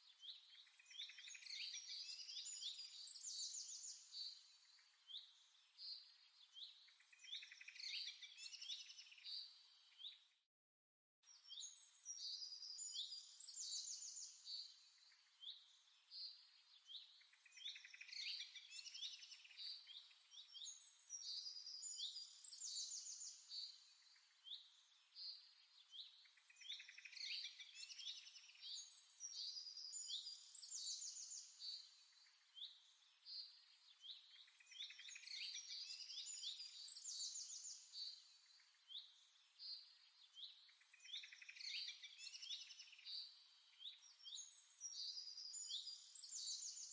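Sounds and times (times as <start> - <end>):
small birds chirping: 0.0 - 10.4, 11.2 - 46.9.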